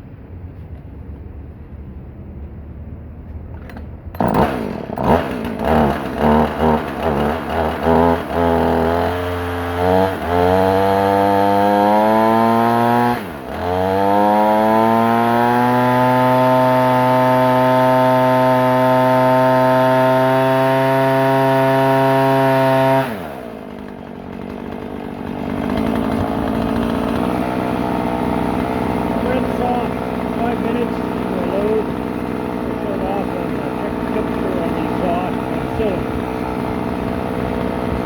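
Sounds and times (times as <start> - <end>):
chainsaw revving: 3.7 - 38.0.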